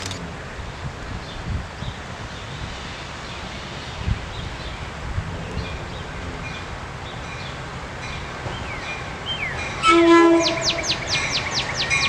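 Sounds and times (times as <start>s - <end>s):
wind gusting on microphone: 0.0s - 12.0s
small birds chirping: 0.7s - 12.0s.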